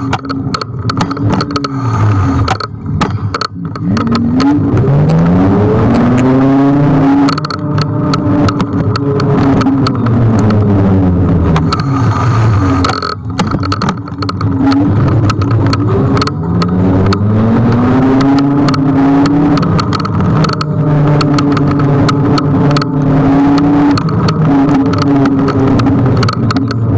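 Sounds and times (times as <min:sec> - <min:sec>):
wind and road noise: 0:00.0 - 0:26.9.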